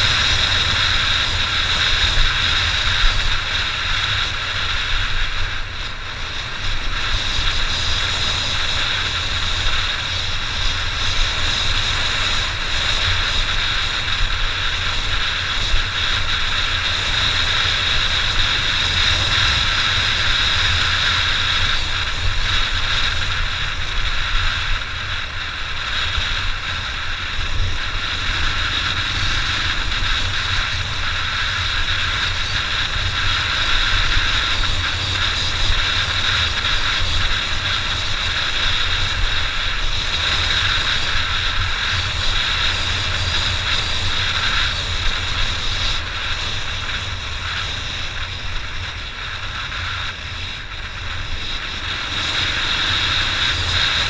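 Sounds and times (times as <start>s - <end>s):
motorcycle engine: 0.0s - 54.0s
wind rush on microphone: 0.0s - 54.0s.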